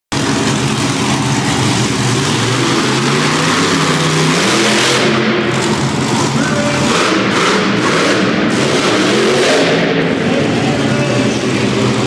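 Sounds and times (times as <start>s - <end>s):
monster truck engine revving: 0.1s - 12.0s.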